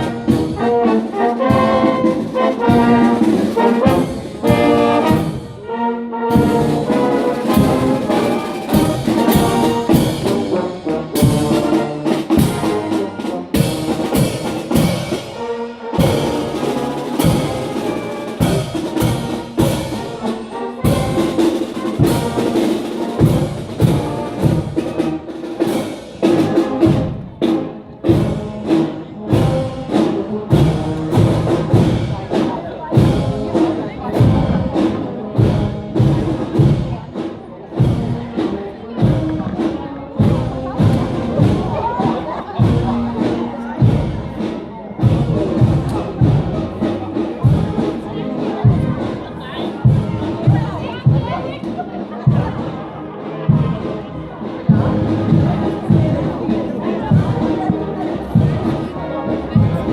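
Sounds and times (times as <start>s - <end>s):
steady drum beat: 0.0s - 5.6s, 6.3s - 52.8s, 53.5s - 59.9s
trumpets and trombones: 0.0s - 51.7s, 52.3s - 59.9s.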